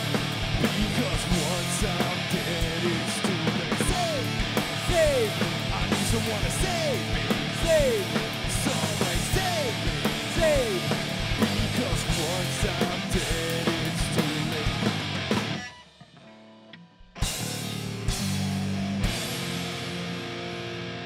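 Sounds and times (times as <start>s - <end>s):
electric guitar strummed hard: 0.0s - 15.8s, 17.2s - 21.0s
rock band playing: 0.0s - 21.0s.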